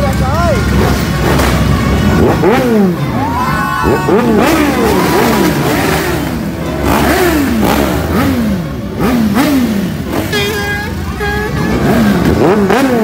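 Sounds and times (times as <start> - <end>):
motorcycle engines revving: 0.0 - 13.0
scooters idling and rolling: 0.0 - 13.0.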